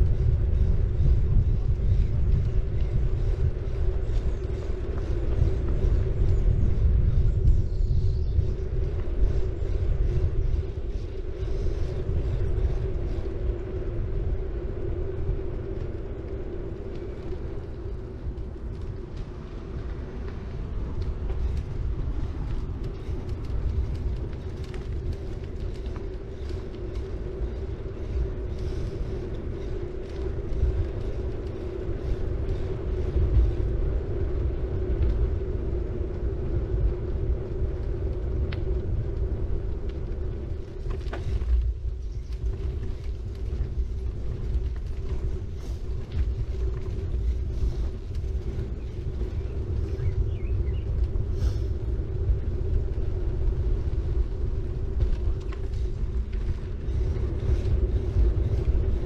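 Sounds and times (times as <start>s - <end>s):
bike clicks and creaks: 0.0s - 59.0s
bike tyres rumbling on road: 0.0s - 59.0s
constant hum: 0.0s - 59.0s.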